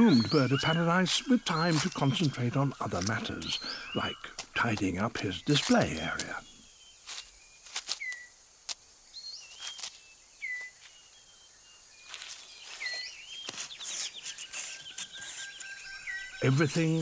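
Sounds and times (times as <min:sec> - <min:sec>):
whistled bird notes: 0:00.0 - 0:04.4, 0:05.4 - 0:08.3, 0:09.1 - 0:17.0
twigs and leaves snapping and rustling: 0:00.1 - 0:11.0, 0:12.0 - 0:17.0.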